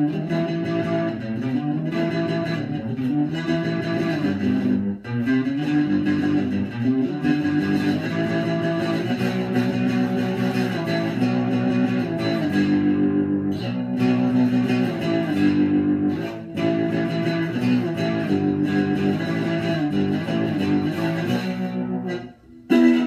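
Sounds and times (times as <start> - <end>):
electric guitar playing: 0.0 - 23.0.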